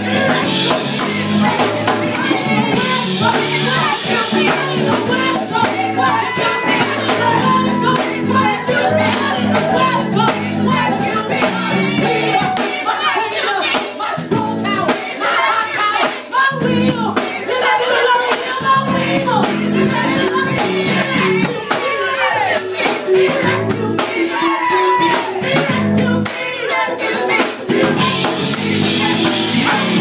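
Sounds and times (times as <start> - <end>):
shaken percussion: 0.0 - 30.0
women singing: 0.0 - 30.0.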